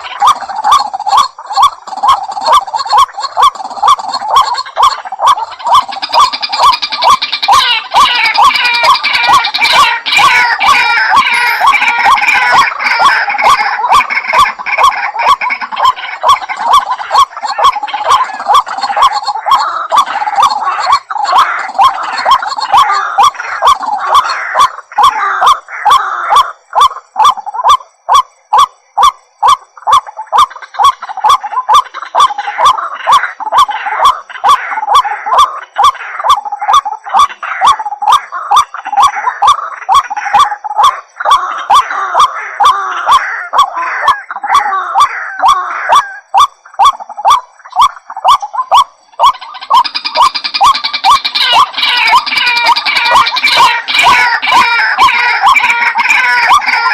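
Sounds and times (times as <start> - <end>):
waterhen harsh honking calls: 0.0 - 28.1, 30.4 - 56.9.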